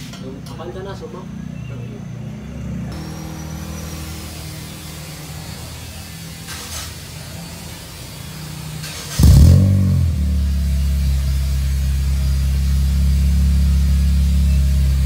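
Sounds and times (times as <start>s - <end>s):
car engine starting and idling: 2.8s - 15.0s.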